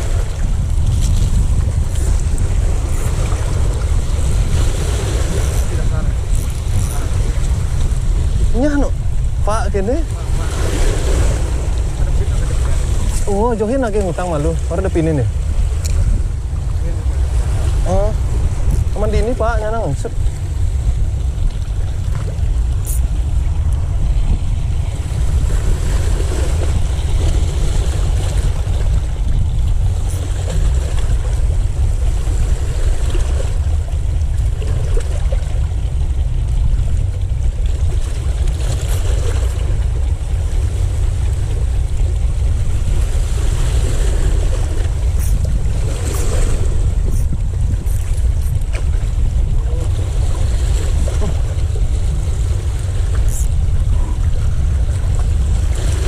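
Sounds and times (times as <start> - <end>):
sea wash: 0.0 - 56.0
wind buffeting the microphone: 0.0 - 56.0.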